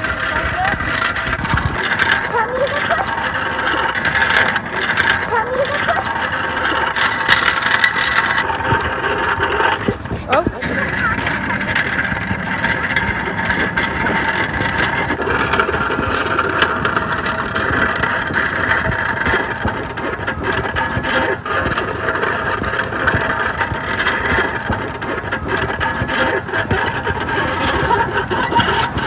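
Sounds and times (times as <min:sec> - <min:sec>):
tricycle wheels rolling on gravel: 0:00.0 - 0:29.0.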